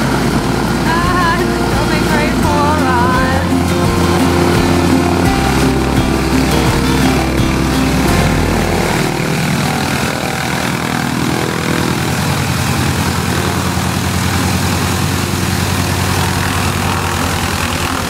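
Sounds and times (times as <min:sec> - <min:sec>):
radial aircraft engine idling: 0:00.0 - 0:18.0.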